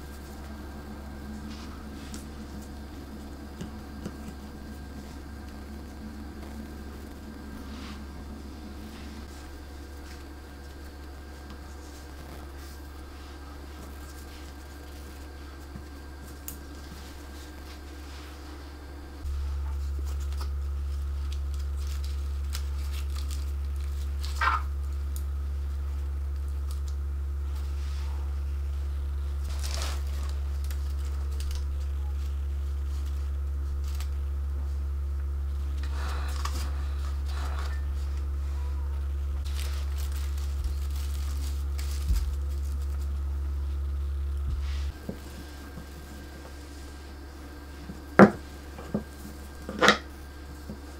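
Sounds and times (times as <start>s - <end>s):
paper rustling and crinkling: 0.0s - 50.9s
steady low hum: 0.0s - 50.9s.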